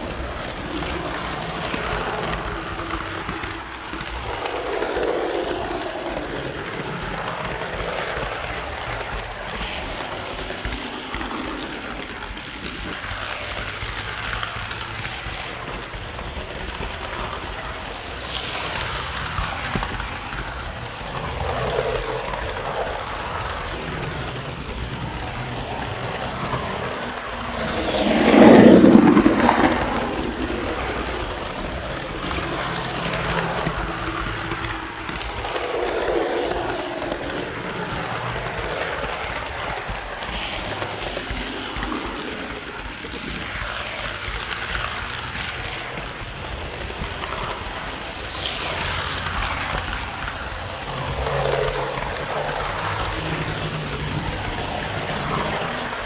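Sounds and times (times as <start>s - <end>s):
model train wheels rattling on rails: 0.0s - 56.0s.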